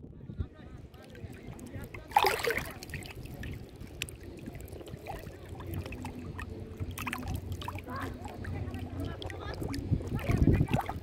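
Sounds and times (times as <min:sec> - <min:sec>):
river water sloshing and lapping: 0:00.9 - 0:11.0
small clicks and drips: 0:00.9 - 0:11.0.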